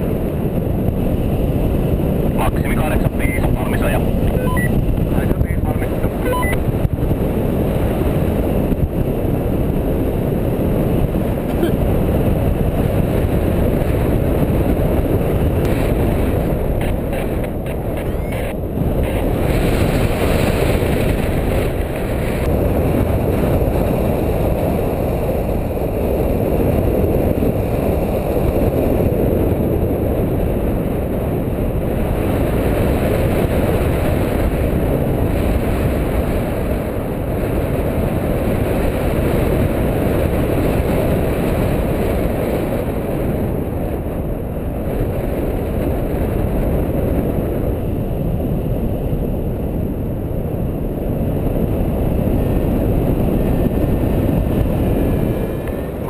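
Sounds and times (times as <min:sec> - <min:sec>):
wind rumbling over microphone: 0:00.0 - 0:56.0.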